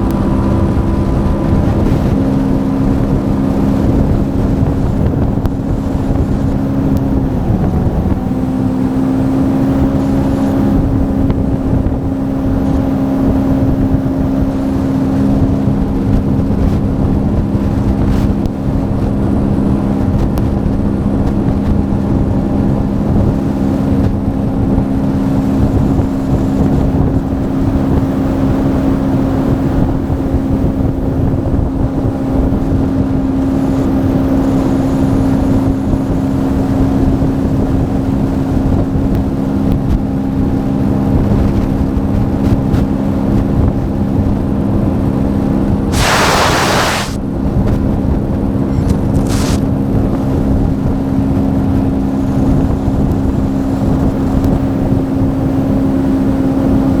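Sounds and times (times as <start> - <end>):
jet ski engine running: 0.0 - 57.0.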